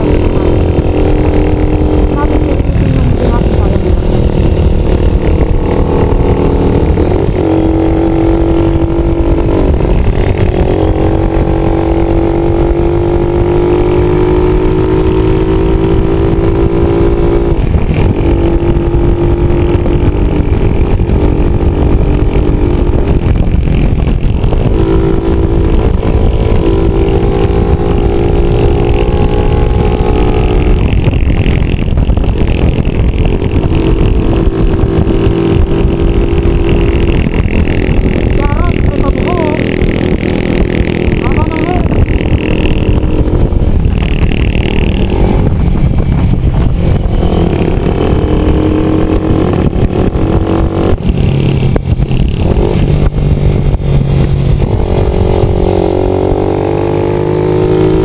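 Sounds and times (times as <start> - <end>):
road and wind noise: 0.0 - 58.0
vehicle engine shifting gears: 0.0 - 58.0.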